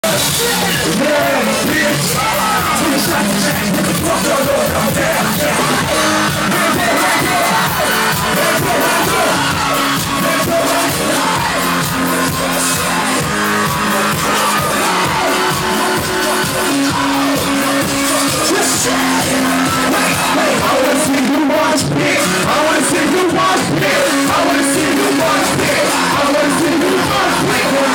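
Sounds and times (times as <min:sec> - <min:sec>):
crowd yelling along: 0:00.0 - 0:27.9
live rap music with heavy beat: 0:00.0 - 0:27.9
performer rapping: 0:00.0 - 0:27.9.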